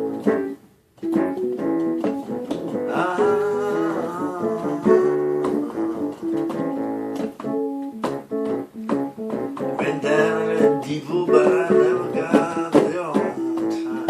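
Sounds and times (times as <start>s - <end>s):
acoustic guitar blues: 0.0s - 14.0s.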